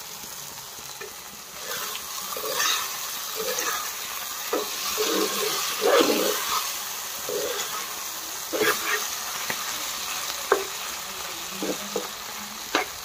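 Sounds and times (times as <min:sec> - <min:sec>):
mushrooms sizzling in oil: 0:00.0 - 0:13.0
spatula scraping a pan: 0:01.6 - 0:13.0.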